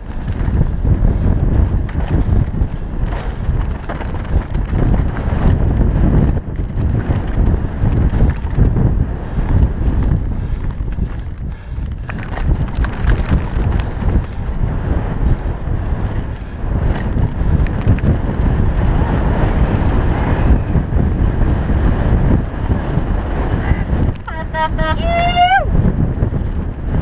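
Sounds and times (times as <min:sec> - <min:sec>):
bike clicks and rattles: 0:00.0 - 0:24.4, 0:25.8 - 0:27.0
wind buffeting microphone: 0:00.0 - 0:27.0.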